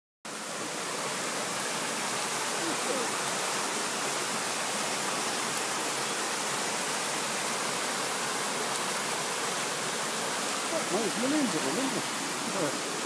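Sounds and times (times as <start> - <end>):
waterfall rushing over boulders: 0.3 - 13.0.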